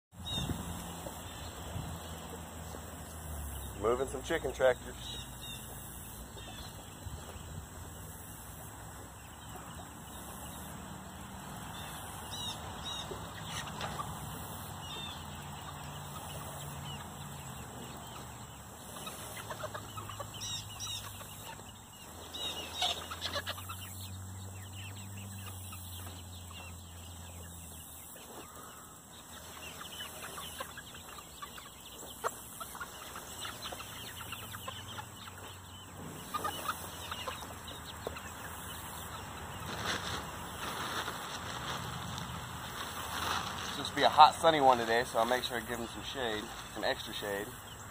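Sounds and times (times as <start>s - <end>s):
chickens clucking: 0.2s - 47.9s.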